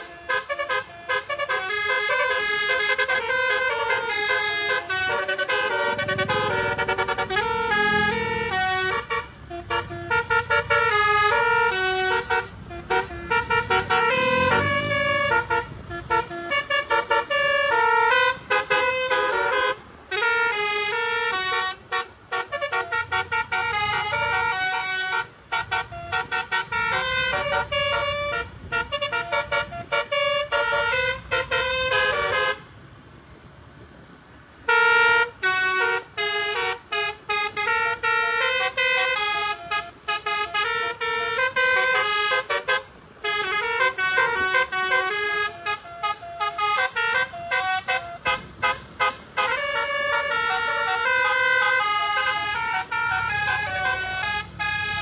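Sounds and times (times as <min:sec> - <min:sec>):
multi-tone air horn melody: 0:00.0 - 0:32.7, 0:34.7 - 0:55.0.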